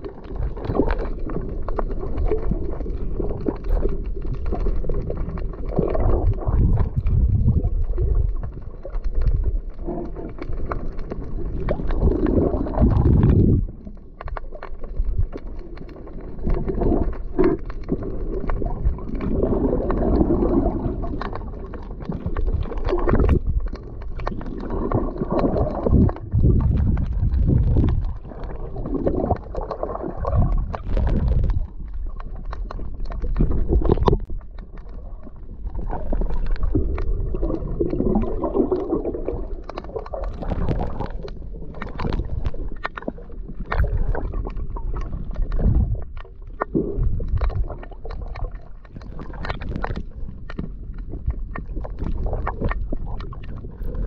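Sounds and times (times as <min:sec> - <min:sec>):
muffled sloshing water: 0:00.0 - 0:54.0.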